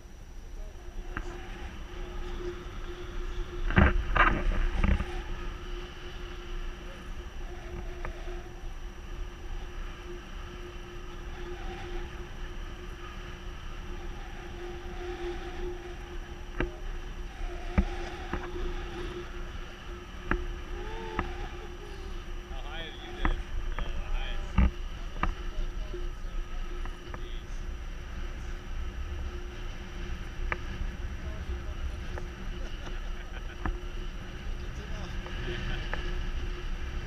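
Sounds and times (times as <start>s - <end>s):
steady faint tone: 0.0s - 37.0s
wind rushing over microphone: 0.0s - 37.0s.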